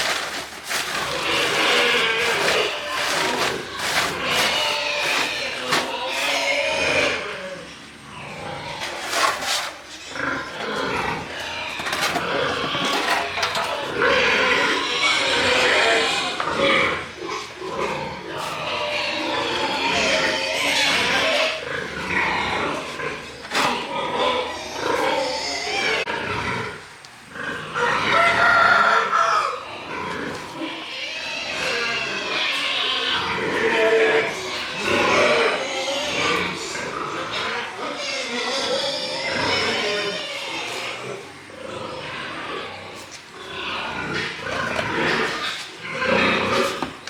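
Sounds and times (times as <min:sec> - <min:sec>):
farm animals calling: 0:00.0 - 0:47.0
pigs squealing: 0:00.0 - 0:47.0.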